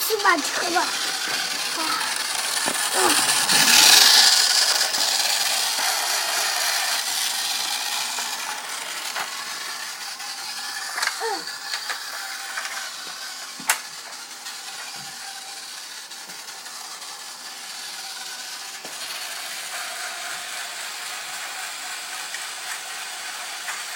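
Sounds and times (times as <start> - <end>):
toy motor and gears whirring: 0.0 - 23.9.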